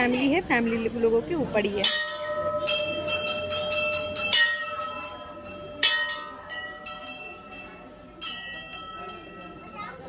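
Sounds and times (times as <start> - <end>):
brass bells ringing: 1.8 - 10.0.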